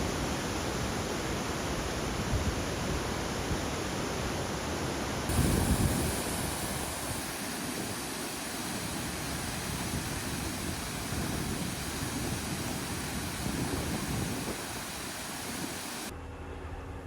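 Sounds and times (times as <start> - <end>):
steady rushing noise: 0.0 - 16.2.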